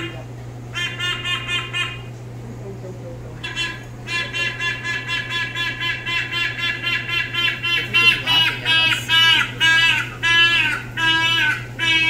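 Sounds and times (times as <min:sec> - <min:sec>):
bird calling in rapid notes: 0:00.0 - 0:02.1, 0:03.4 - 0:12.0.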